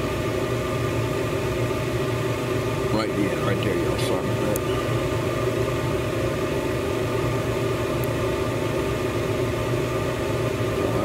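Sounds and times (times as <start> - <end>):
electric blower fan humming: 0.0 - 11.0.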